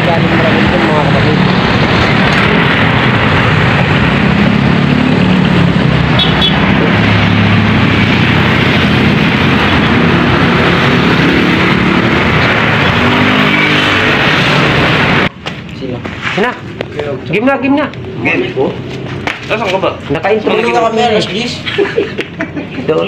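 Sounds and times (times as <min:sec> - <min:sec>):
cars passing with tyre noise: 0:00.0 - 0:23.0
motorcycles passing: 0:00.0 - 0:23.0.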